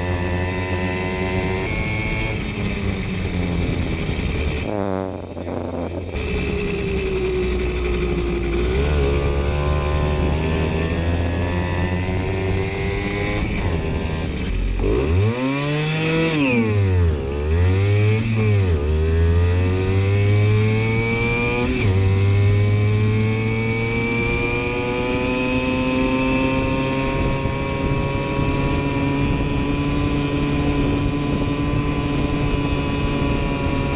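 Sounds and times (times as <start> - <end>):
two-stroke moped engine revving: 0.0 - 33.9.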